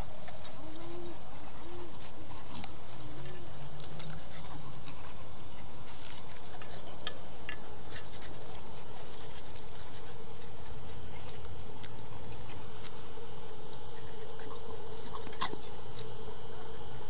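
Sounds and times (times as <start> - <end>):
puppies scuffling on grass: 0.0 - 15.8
jingling: 0.0 - 16.3.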